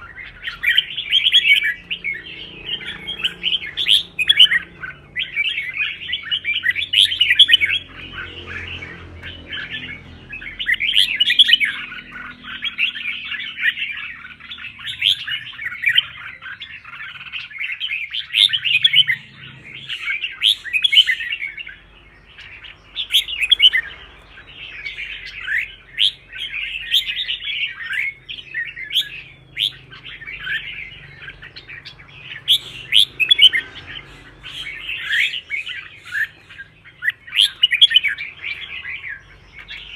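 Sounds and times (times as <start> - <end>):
bulbuls singing: 0.0 - 39.9.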